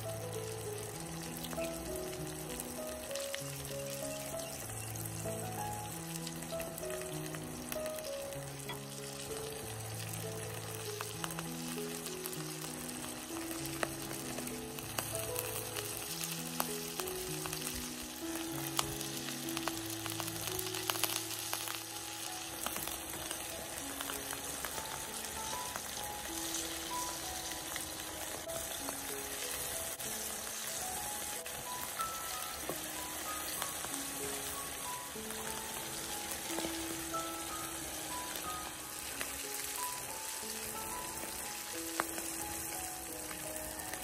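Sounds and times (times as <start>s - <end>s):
food sizzling in hot oil: 0.0s - 44.0s
soft background music: 0.0s - 44.0s.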